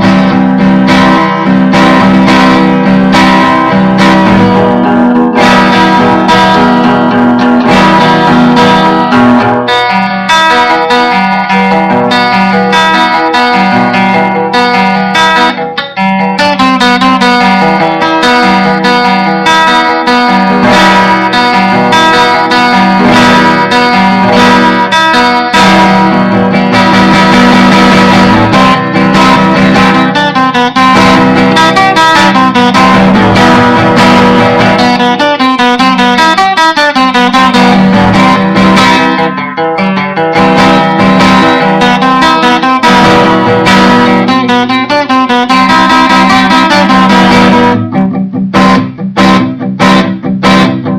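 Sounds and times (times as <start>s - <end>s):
guitar plucked and strummed: 0.0s - 50.9s.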